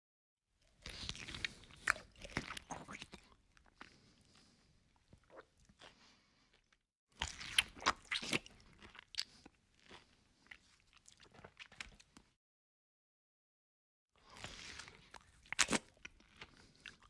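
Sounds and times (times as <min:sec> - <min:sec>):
chewing crunchy food: 0:00.6 - 0:12.4, 0:14.2 - 0:17.0.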